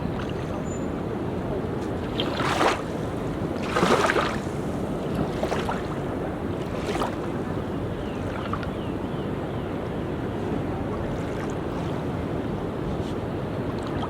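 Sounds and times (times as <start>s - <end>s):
wave splash: 0.0s - 8.7s, 10.0s - 14.0s
sea surf washing on beach: 0.0s - 14.0s.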